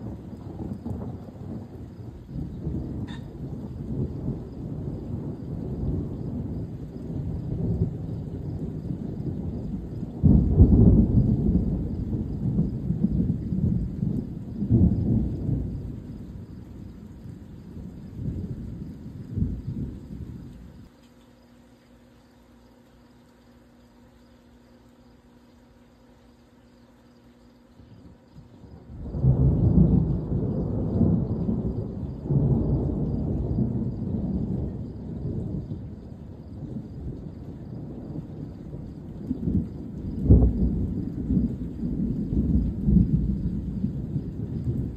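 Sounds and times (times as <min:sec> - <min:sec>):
thunder clap and rumble: 0:00.0 - 0:20.9, 0:27.8 - 0:44.9.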